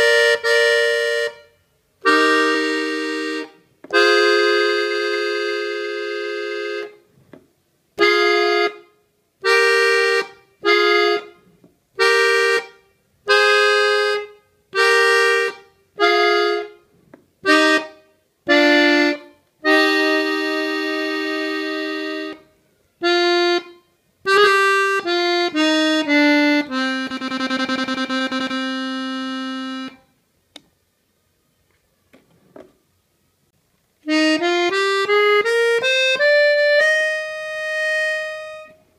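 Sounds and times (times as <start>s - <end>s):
button accordion playing: 0.0s - 7.1s, 8.0s - 30.1s, 34.0s - 38.9s.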